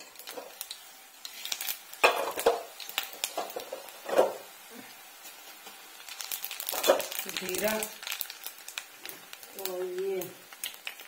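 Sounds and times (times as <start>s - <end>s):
seeds sizzling in hot oil: 0.0s - 11.0s.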